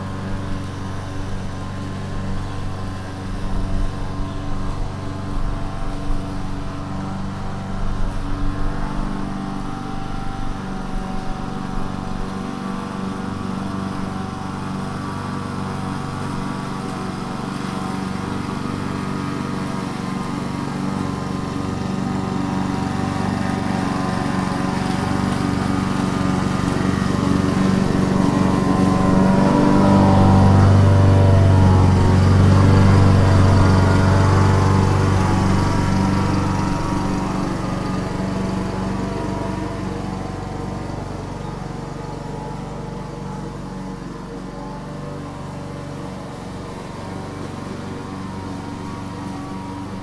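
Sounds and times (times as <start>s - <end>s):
lawn mower engine cutting grass: 0.0s - 50.0s.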